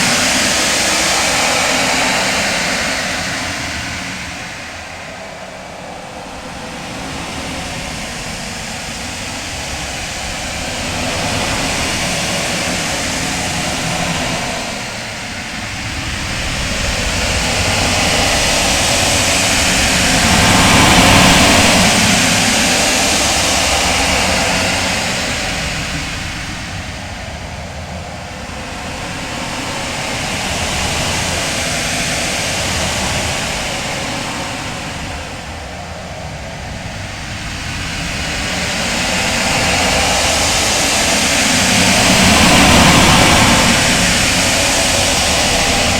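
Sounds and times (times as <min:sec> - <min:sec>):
rushing rumble of noise: 0:00.0 - 0:45.9.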